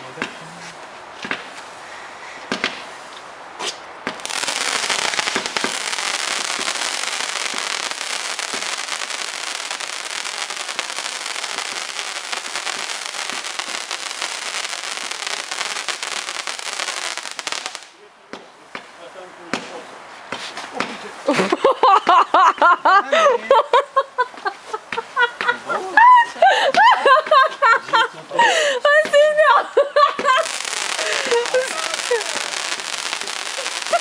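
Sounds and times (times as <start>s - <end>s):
fireworks popping and crackling: 0.0s - 1.8s, 2.5s - 22.8s, 26.7s - 34.0s.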